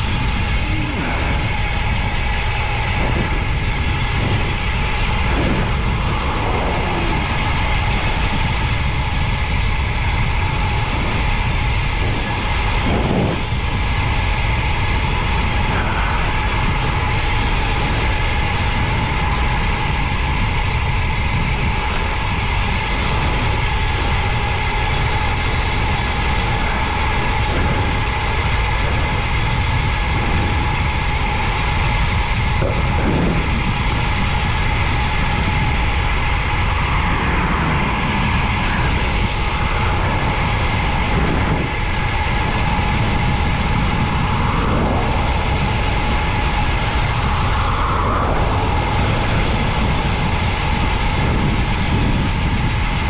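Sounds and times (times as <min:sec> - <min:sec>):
faint steady whine: 0:00.0 - 0:53.0
wind rushing over microphone: 0:00.0 - 0:53.0.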